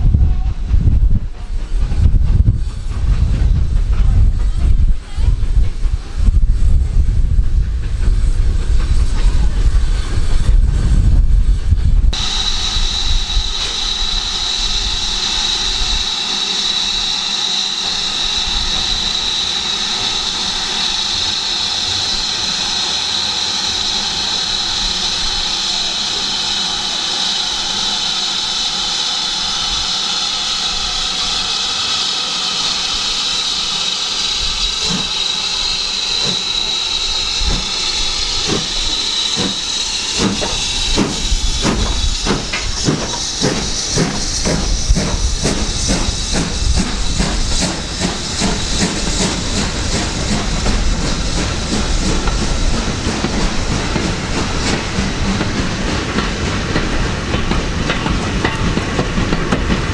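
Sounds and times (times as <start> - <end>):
low train rumble: 0.0 - 59.9
steam engine hissing steam: 0.0 - 59.9.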